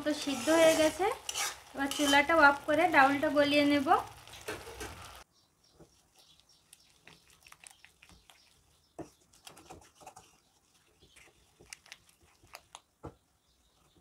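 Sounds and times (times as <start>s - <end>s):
wooden masher squelching lentils: 0.0s - 5.2s, 5.8s - 12.9s.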